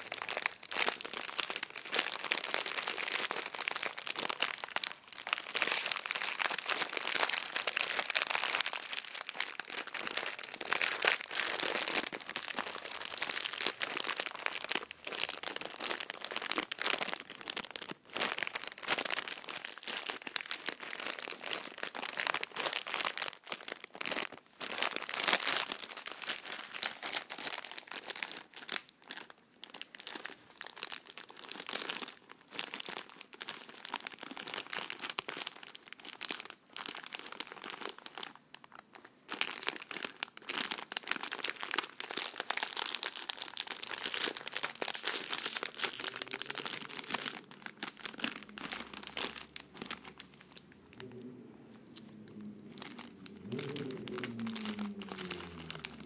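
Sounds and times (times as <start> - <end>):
plastic packaging crinkling: 0.0 - 56.0.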